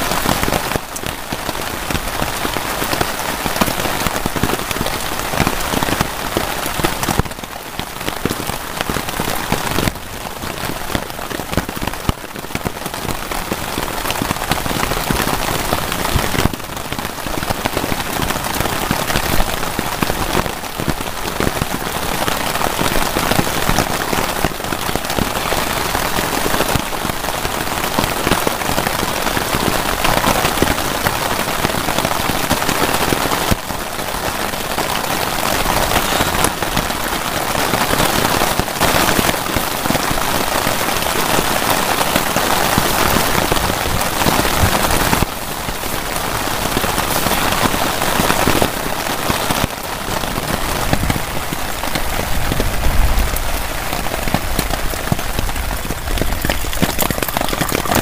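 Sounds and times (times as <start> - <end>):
rain on tent fabric: 0.0 - 58.0.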